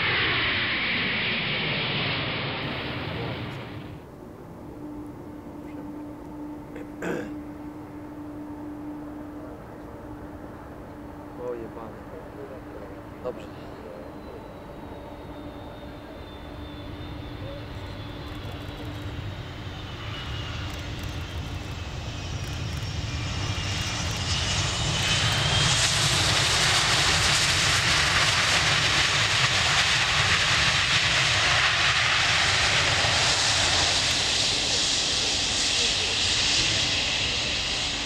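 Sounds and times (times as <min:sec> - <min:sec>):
high engine whine falling in pitch: 0:00.0 - 0:38.0
jet engines roaring: 0:00.0 - 0:38.0.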